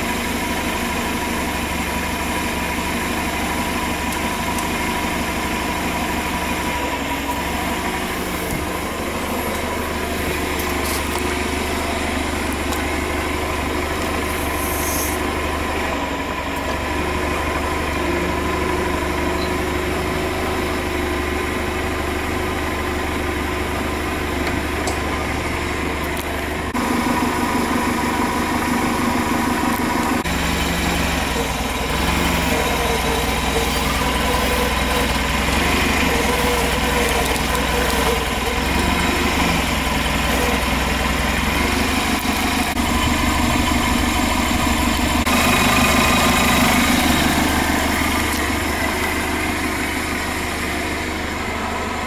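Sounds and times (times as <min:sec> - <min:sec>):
forklift engine running: 0:00.0 - 0:52.0.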